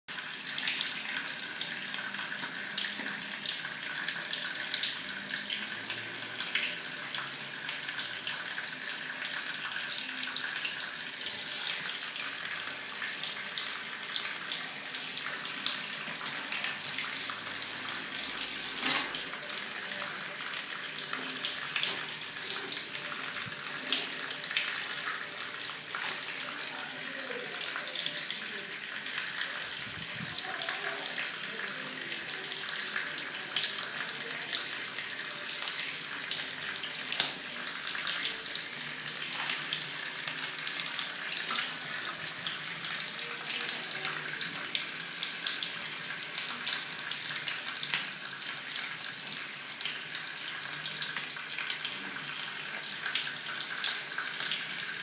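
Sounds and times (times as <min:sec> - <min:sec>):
water running from a tap: 0:00.1 - 0:55.0.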